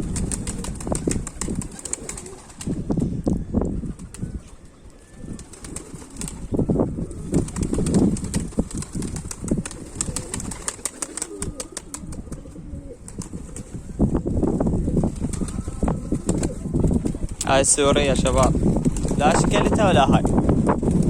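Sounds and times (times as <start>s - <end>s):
pigeons cooing: 0.0s - 20.0s
wing flaps: 0.0s - 21.0s.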